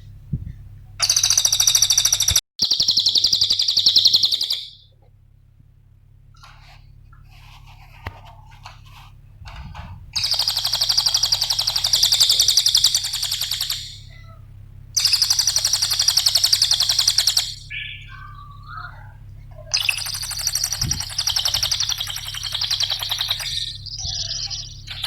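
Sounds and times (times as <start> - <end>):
steady low hum: 0.0 - 1.5, 2.1 - 25.0
songbird chirps and trills: 1.0 - 4.9, 7.4 - 25.0.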